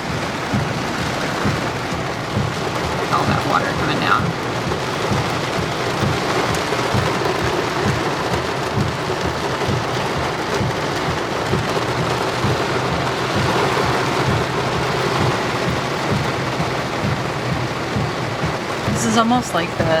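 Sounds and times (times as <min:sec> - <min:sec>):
heavy rain on vehicle roof: 0:00.0 - 0:20.0.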